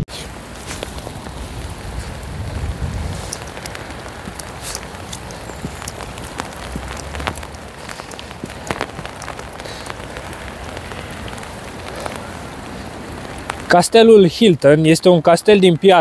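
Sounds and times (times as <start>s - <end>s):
raindrops ticking near microphone: 0.0s - 16.0s
steady rain hiss: 0.0s - 16.0s.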